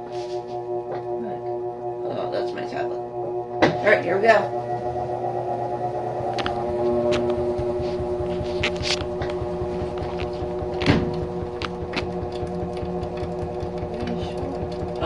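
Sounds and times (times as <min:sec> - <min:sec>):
washing machine spinning hum: 0:00.0 - 0:15.0.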